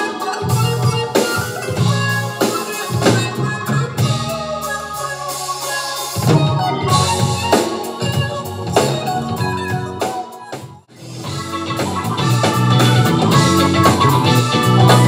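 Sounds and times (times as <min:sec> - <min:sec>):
funk band playing: 0:00.0 - 0:15.0.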